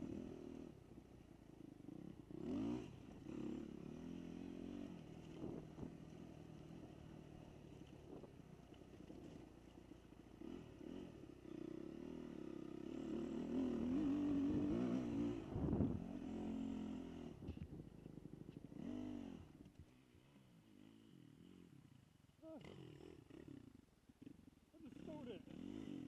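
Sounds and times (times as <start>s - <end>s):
dirt bike engine revving: 0.0s - 17.5s, 18.6s - 19.6s, 20.6s - 26.0s.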